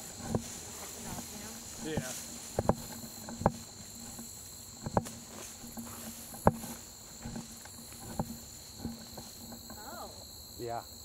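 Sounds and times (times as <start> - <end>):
footsteps on a trail: 0.0 - 10.1
high-pitched insect chorus: 0.0 - 11.0.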